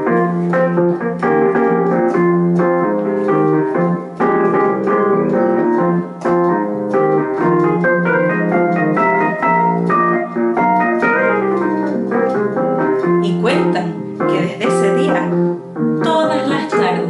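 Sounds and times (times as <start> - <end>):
electronic keyboard melody: 0.0 - 17.0.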